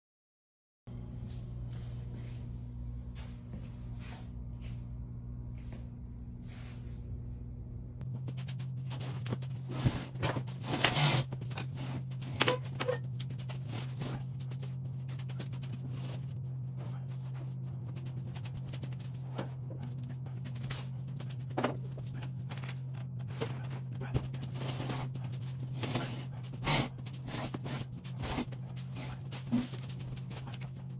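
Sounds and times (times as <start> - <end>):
low machine hum: 0.9 - 30.9.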